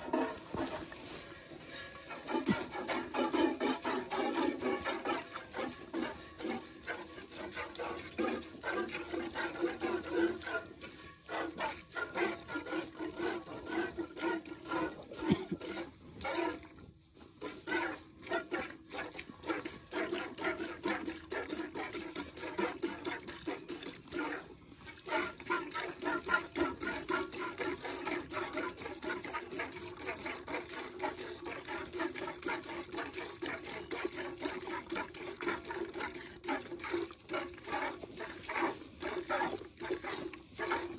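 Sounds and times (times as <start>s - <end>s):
milk squirting into a pail: 2.3s - 40.9s.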